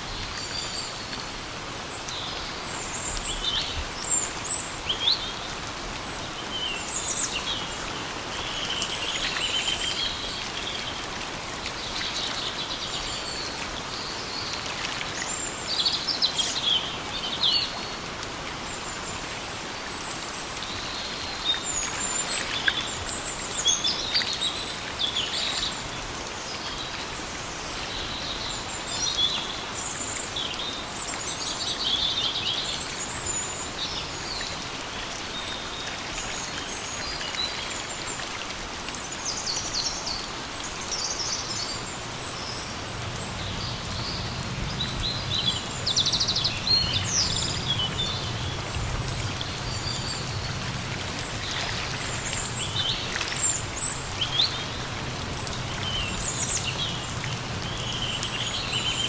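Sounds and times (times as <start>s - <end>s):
rain falling in forest: 0.0s - 59.0s.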